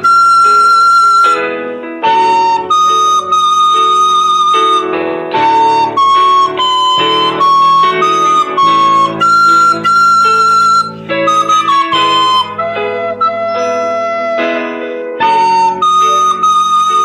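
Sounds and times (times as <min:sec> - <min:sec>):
recorder playing slow melody: 0:00.0 - 0:17.0.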